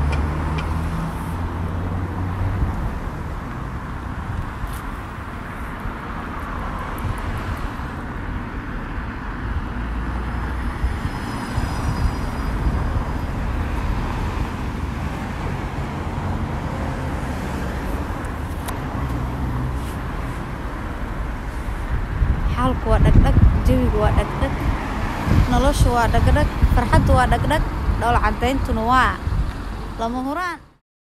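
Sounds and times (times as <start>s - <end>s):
street traffic rumble: 0.0s - 30.8s.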